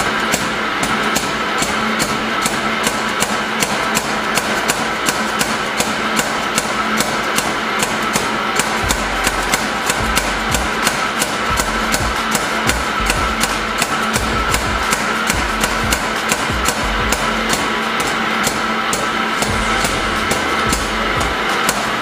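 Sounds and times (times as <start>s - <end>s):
hammer striking metal: 0.0s - 22.0s.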